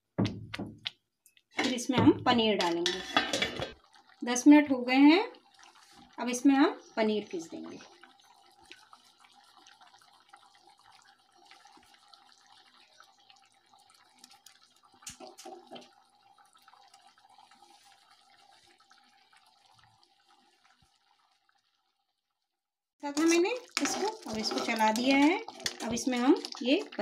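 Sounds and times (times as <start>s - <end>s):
gravy bubbling: 0.0s - 22.2s, 23.0s - 27.0s.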